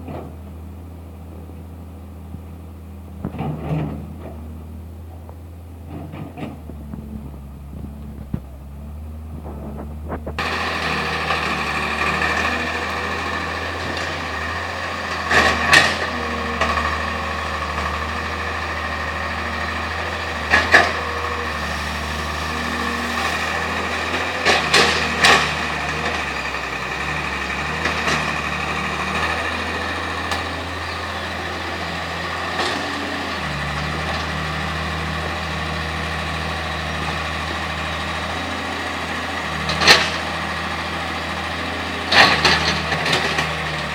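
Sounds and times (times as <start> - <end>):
excavator engine running: 0.0 - 43.9.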